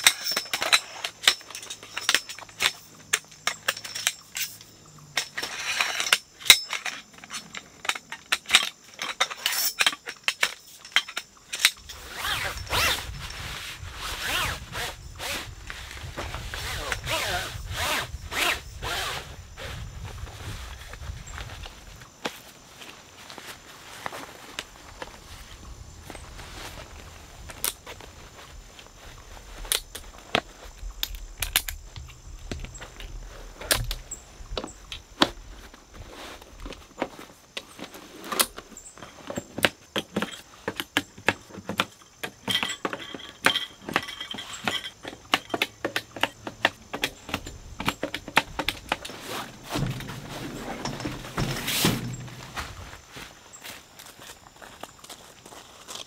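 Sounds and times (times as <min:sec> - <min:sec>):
camp cot clicks and knocks: 0:00.0 - 0:54.1.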